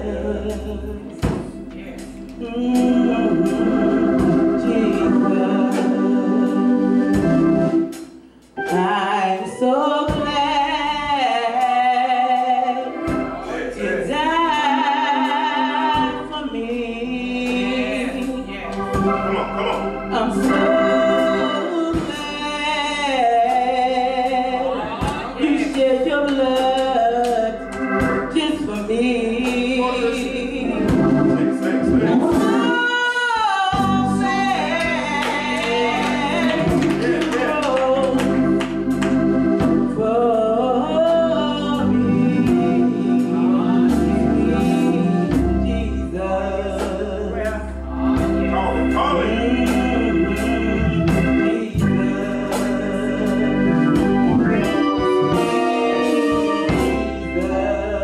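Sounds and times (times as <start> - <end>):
gospel choir singing: 0.0 - 58.0
organ accompaniment: 0.0 - 58.0.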